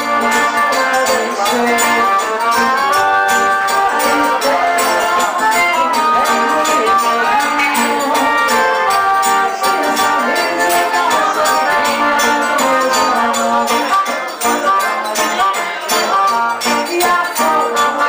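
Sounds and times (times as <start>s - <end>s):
accordion melody: 0.0s - 18.0s
guitar: 0.0s - 18.0s
hand percussion: 0.0s - 18.0s.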